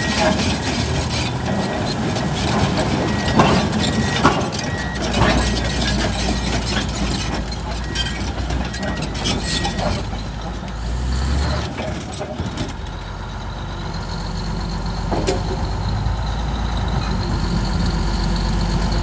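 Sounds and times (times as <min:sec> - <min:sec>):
steel tracks clanking over gravel: 0:00.0 - 0:13.2, 0:15.0 - 0:18.2
diesel engine droning: 0:00.0 - 0:19.0.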